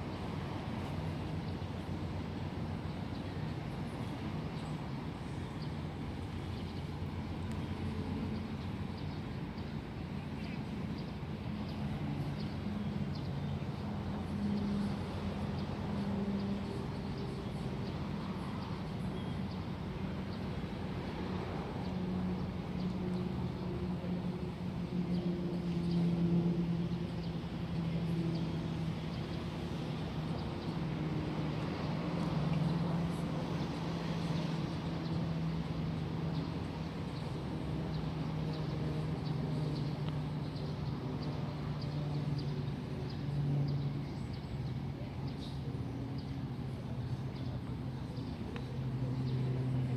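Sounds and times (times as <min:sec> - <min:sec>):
outdoor background noise: 0:00.0 - 0:49.9.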